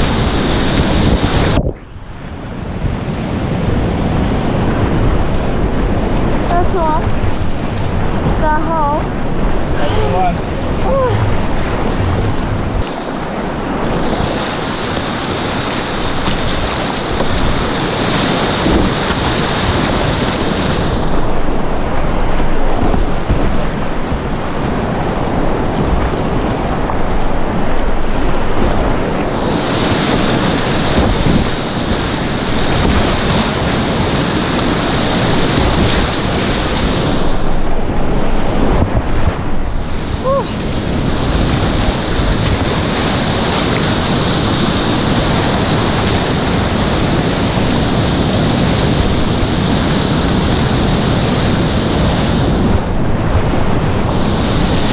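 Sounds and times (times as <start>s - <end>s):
whitewater rapids rushing: 2.5s - 54.9s.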